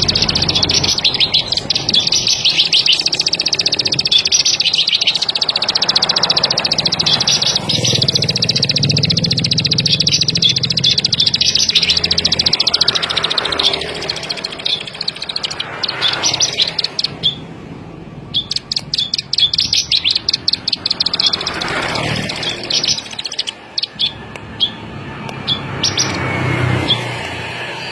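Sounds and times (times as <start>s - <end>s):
songbird clicking trill: 0.0s - 17.4s, 18.3s - 26.2s.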